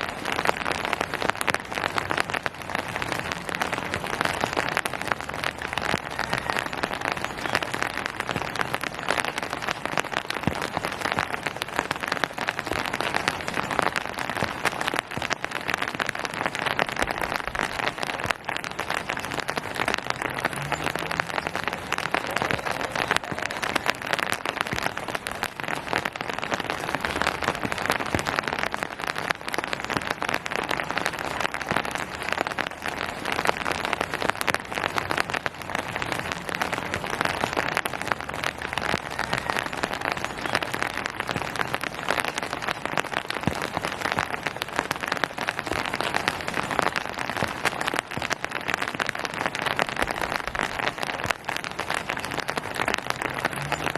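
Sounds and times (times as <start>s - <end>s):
steady rain pattering: 0.0s - 53.9s.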